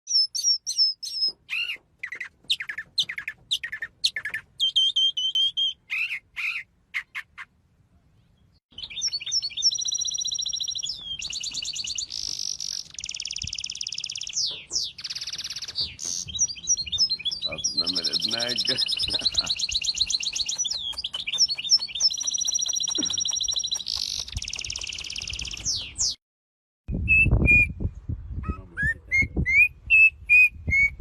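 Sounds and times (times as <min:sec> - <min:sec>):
songbird singing: 0:00.1 - 0:26.2.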